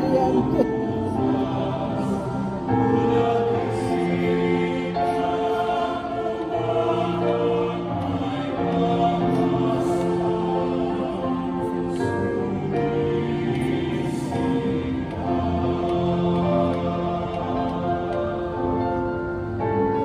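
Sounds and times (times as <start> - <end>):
men's choir singing in harmony: 0.0 - 20.0.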